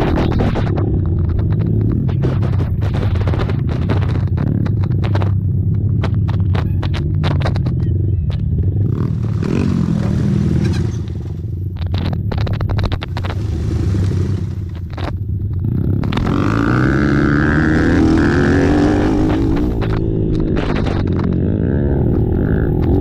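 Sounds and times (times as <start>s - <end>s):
racing atv engines revving: 0.0s - 23.0s
sharp clicks and clattering knocks: 0.0s - 23.0s.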